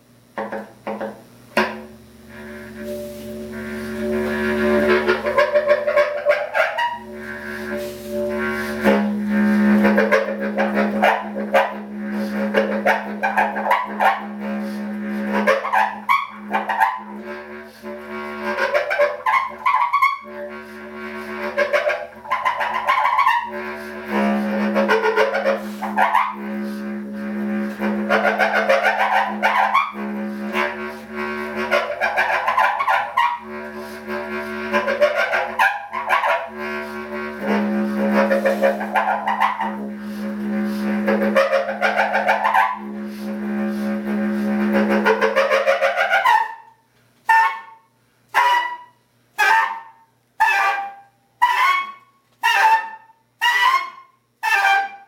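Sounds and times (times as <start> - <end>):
bass clarinet playing: 1.6 - 55.0.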